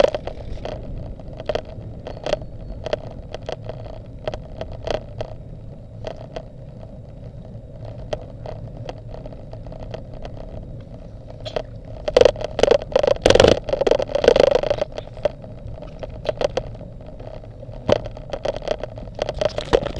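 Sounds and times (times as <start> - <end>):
bike tyres humming on asphalt: 0.0 - 19.9
rattling and rushing noise: 0.0 - 19.9.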